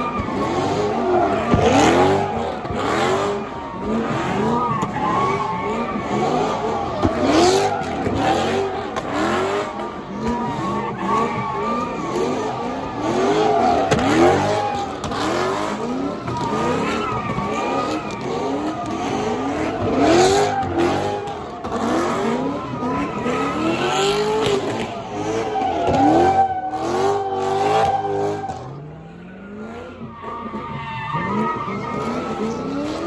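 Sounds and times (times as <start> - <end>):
car engine revving hard: 0.0 - 33.0
tires squealing: 0.0 - 33.0.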